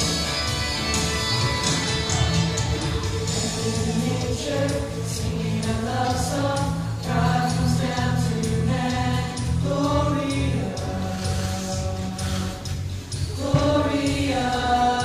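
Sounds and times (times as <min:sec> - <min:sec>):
mixed choir singing: 0:02.2 - 0:15.0.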